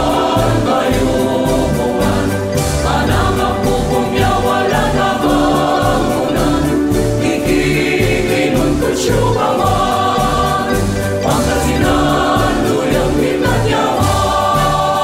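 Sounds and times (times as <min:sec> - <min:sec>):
choir singing: 0:00.0 - 0:15.0
instrumental backing with steady beat: 0:00.0 - 0:15.0.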